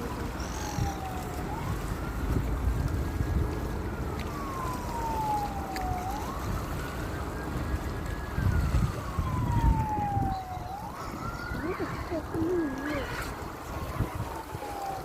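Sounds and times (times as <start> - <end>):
wailing siren: 0.0 - 15.0
waves: 0.0 - 15.0
wind: 0.0 - 15.0.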